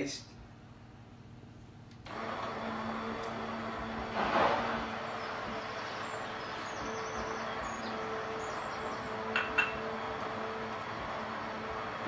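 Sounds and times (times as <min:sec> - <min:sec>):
stick blender humming: 0:02.0 - 0:12.0.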